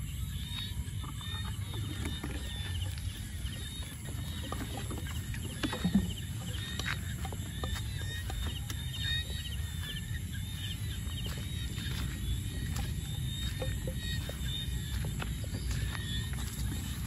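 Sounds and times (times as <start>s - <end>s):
rustling through grass: 2.0s - 17.0s.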